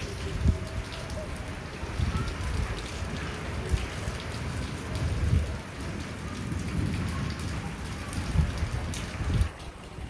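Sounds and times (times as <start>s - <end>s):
heavy rain on pavement: 0.0s - 10.0s.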